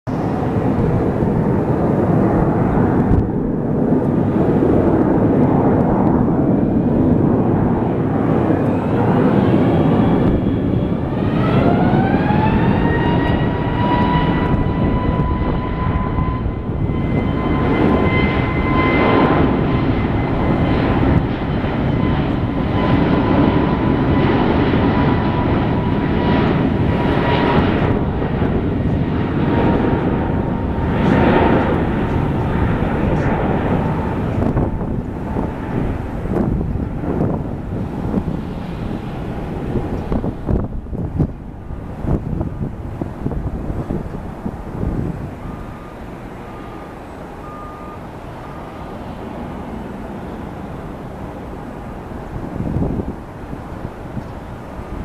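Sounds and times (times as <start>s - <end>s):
jet engines running: 0.0s - 55.0s
jet engine whine rising: 0.1s - 55.0s.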